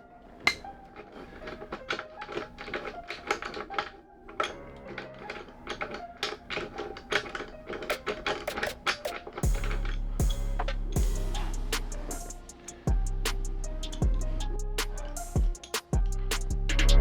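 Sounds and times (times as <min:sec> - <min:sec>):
quiet music: 0:00.0 - 0:17.0
rapid sharp clicking and tapping: 0:01.4 - 0:16.9.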